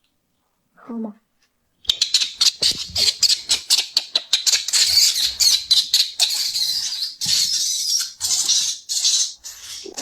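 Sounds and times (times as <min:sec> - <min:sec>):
high-pitched animal chirping calls: 0:01.9 - 0:10.0.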